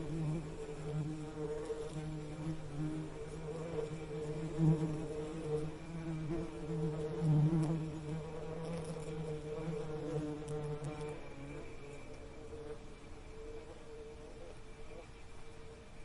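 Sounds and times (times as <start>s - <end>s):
bees buzzing: 0.0s - 15.8s.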